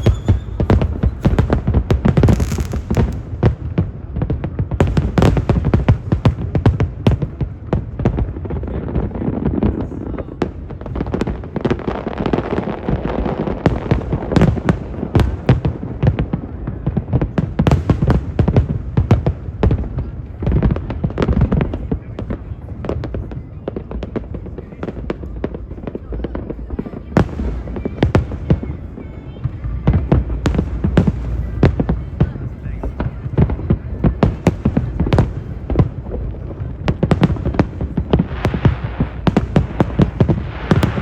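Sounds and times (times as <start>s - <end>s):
deep fireworks booms: 0.0s - 41.0s
fireworks bangs and crackling: 0.0s - 41.0s.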